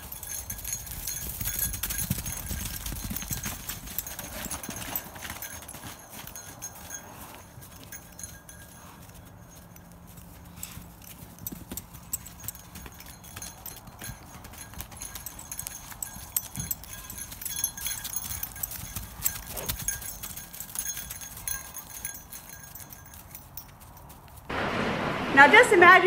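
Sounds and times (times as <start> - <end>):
calf hooves walking and trotting: 0.0 - 24.5.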